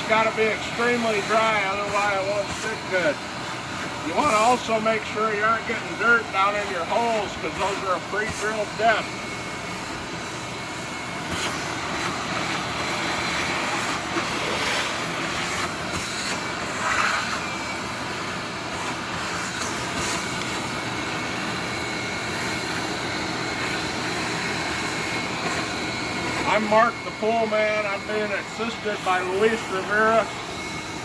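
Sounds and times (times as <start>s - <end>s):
heat gun running: 0.0s - 31.0s
shop vac blower whoosh: 0.0s - 31.0s.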